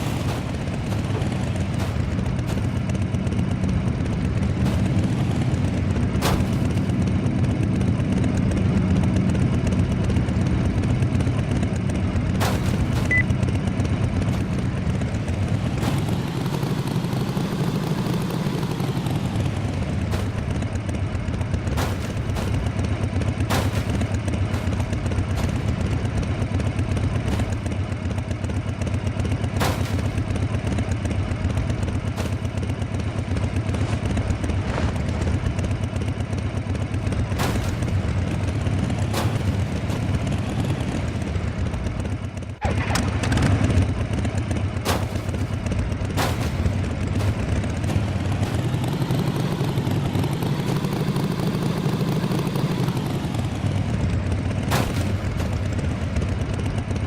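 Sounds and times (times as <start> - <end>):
sharp engine knocks: 0.0 - 57.0
vehicle engine rumbling: 0.0 - 57.0.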